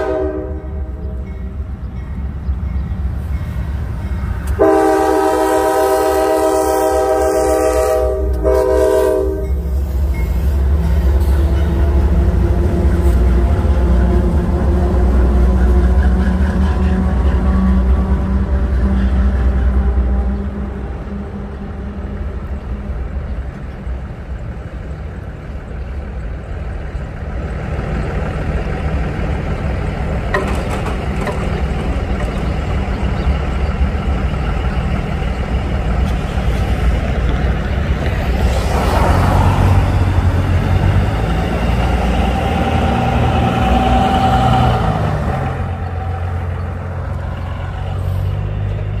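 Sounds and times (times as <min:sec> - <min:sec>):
diesel locomotives running: 0:00.0 - 0:49.0.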